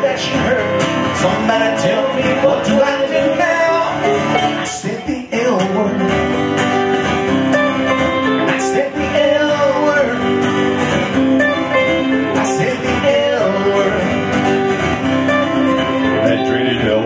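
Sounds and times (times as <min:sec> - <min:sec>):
acoustic guitar strumming: 0:00.0 - 0:17.0
electric guitar lead notes: 0:00.0 - 0:17.0.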